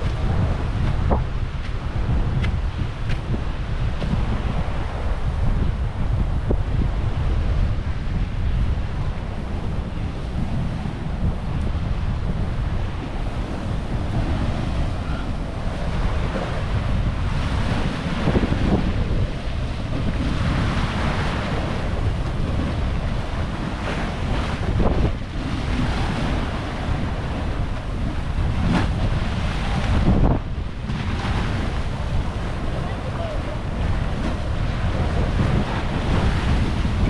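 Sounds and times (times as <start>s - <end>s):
waves washing onto beach: 0.0s - 37.0s
wind buffeting microphone: 0.0s - 37.0s.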